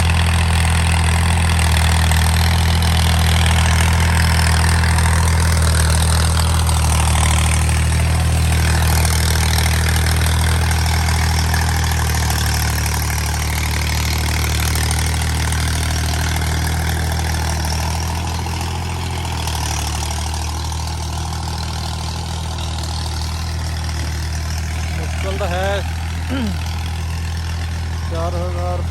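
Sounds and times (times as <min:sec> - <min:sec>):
diesel tractor engine running: 0:00.0 - 0:28.9.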